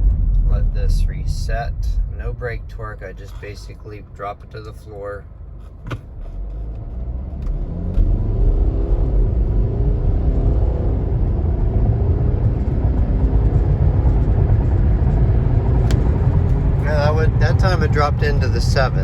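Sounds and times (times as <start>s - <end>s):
diesel engine accelerating: 0.0s - 19.0s.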